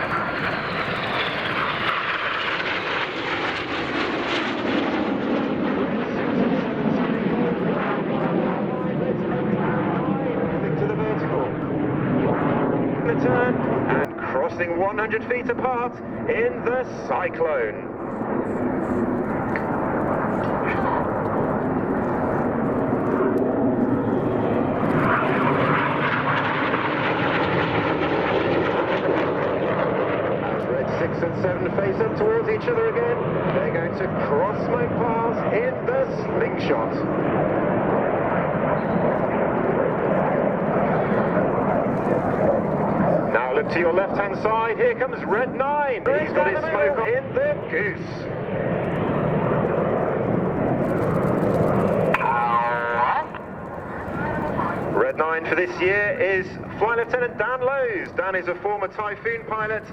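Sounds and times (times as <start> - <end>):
jet aircraft passing by: 0.0 - 59.9.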